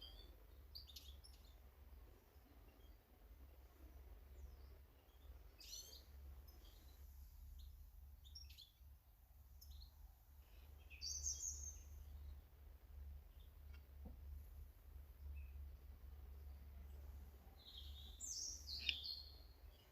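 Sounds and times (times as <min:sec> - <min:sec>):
faint birds chirping: 0:00.0 - 0:19.9
steady low hum: 0:01.4 - 0:19.9.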